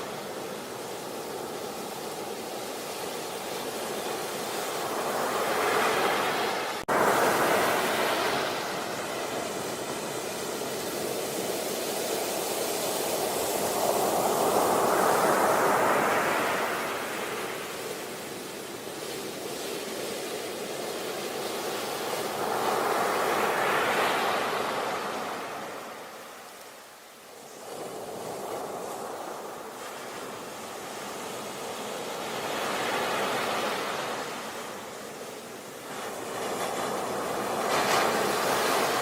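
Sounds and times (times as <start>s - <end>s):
sea waves washing onto beach: 0.0s - 39.0s.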